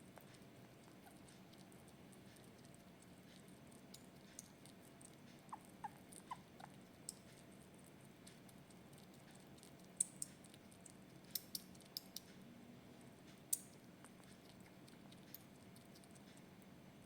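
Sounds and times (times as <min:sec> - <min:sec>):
crunchy food being chewed: 0:00.0 - 0:12.4, 0:13.0 - 0:16.8.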